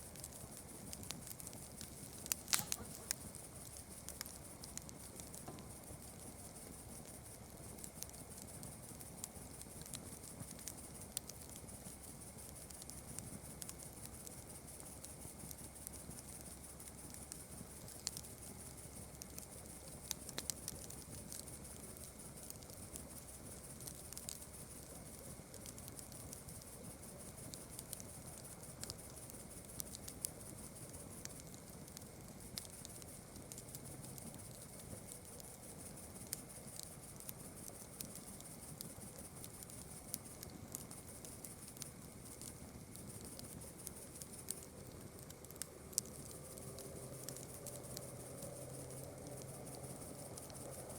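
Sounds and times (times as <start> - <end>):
campfire crackling: 0.0 - 50.9
night insects chirring: 0.0 - 50.9.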